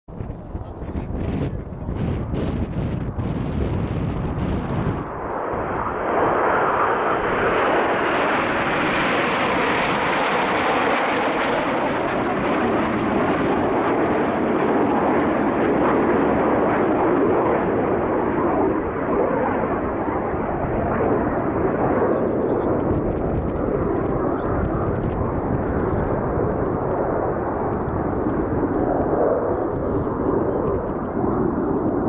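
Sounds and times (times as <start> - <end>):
jets flying past roaring: 0.1 - 32.0.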